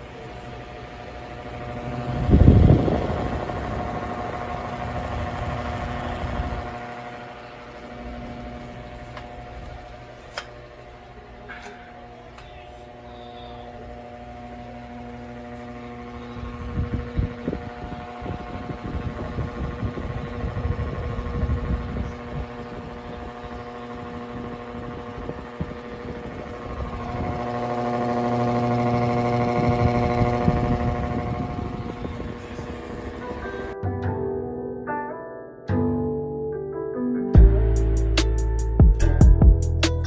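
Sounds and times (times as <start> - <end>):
fan motor hum: 0.0 - 33.8.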